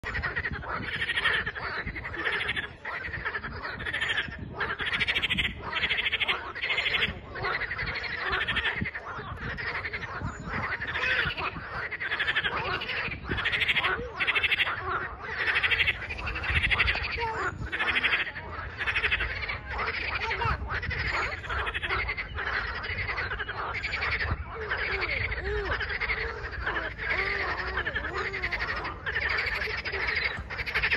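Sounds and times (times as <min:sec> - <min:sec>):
chorus of frogs calling: 0:00.0 - 0:30.9.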